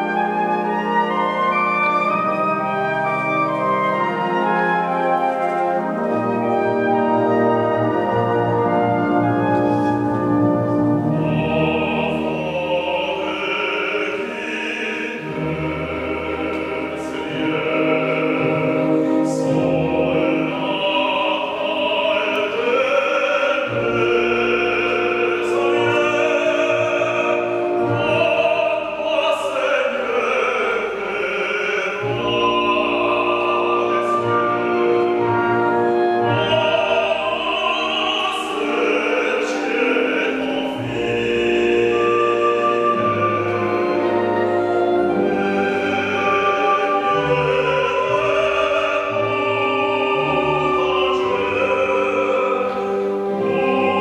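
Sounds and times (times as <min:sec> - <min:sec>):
orchestra playing: 0:00.0 - 0:54.0
opera singer with vibrato: 0:10.8 - 0:54.0.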